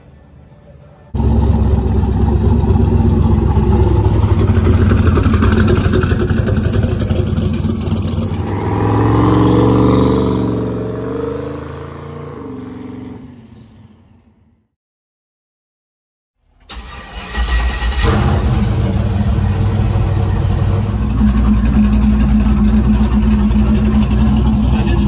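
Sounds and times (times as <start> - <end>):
truck engine revving: 1.2 - 14.2, 16.7 - 25.0.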